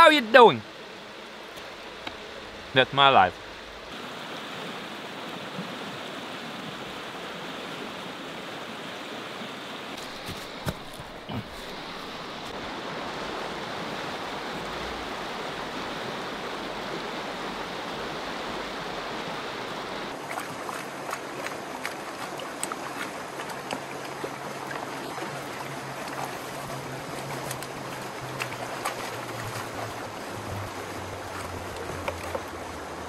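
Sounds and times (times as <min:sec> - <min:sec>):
stream running over stones: 0:00.0 - 0:33.0.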